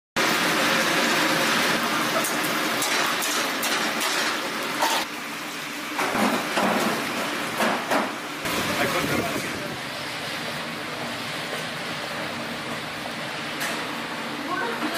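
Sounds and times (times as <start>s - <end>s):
chicken frying in hot oil: 0.2s - 14.8s.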